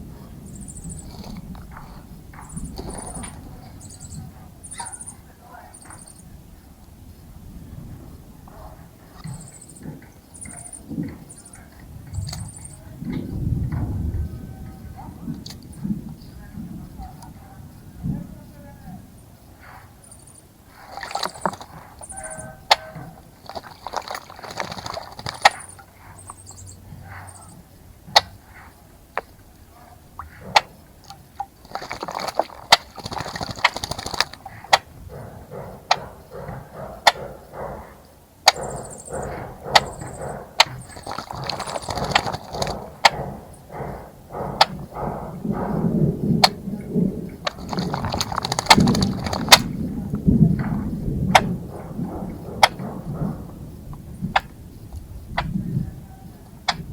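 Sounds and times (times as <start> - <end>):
birds splashing water: 0.0 - 56.9
sharp ticks: 0.0 - 56.9.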